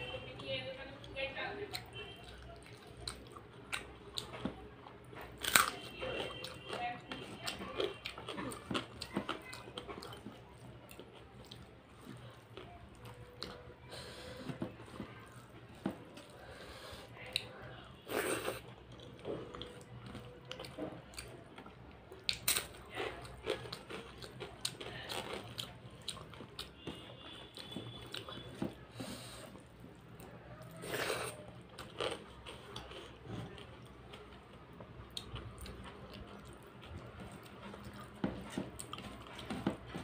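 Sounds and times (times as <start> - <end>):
chewing and crunching rice: 1.0 - 40.0.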